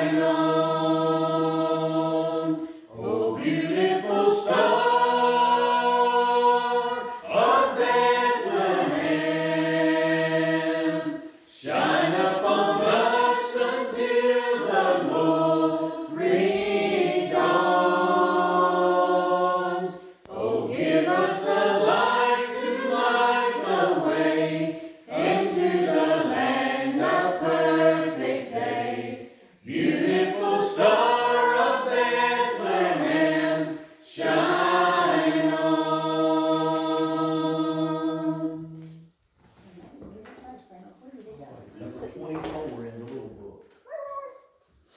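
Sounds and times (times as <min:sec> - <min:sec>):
group singing a carol: 0:00.0 - 0:39.2.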